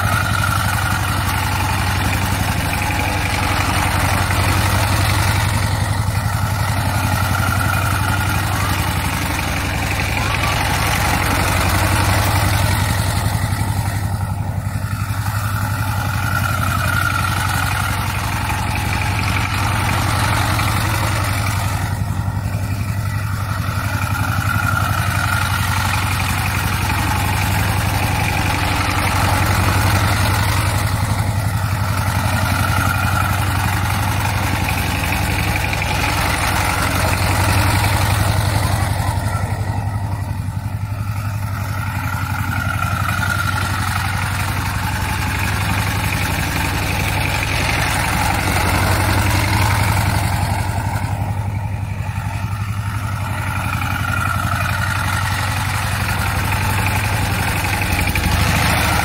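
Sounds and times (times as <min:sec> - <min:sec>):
diesel tiller engine chugging: 0:00.0 - 0:59.0.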